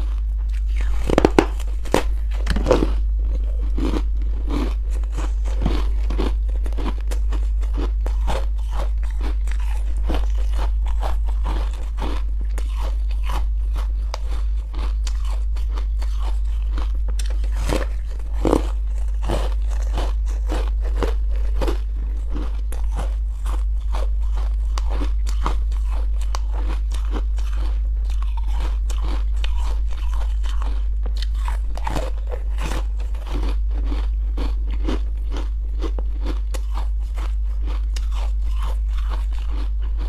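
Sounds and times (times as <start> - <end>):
crunchy food chewing: 0.0 - 40.0
steady low hum: 0.0 - 40.0.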